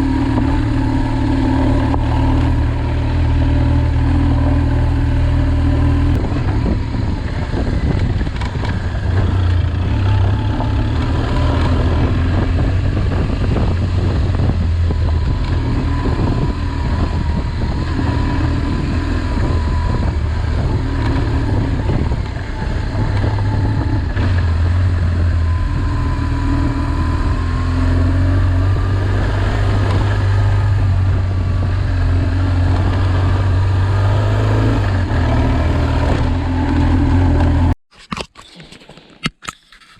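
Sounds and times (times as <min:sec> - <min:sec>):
vehicle engine under load: 0:00.0 - 0:37.8.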